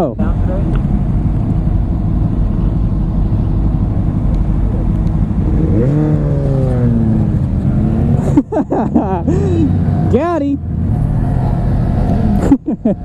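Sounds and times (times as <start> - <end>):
motorcycle engine running: 0.2 - 12.5.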